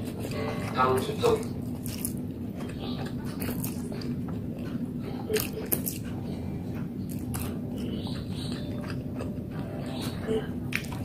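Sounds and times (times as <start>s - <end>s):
low steady hum: 0.0s - 11.0s
person chewing noodles: 0.0s - 11.0s.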